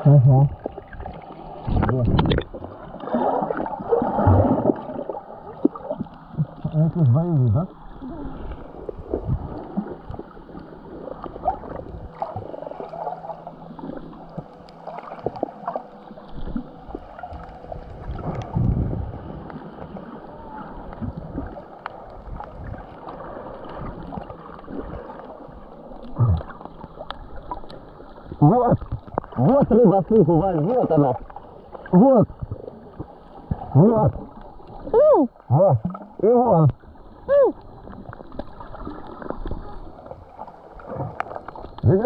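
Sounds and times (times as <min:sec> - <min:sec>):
sea water sloshing: 0:00.0 - 0:42.0.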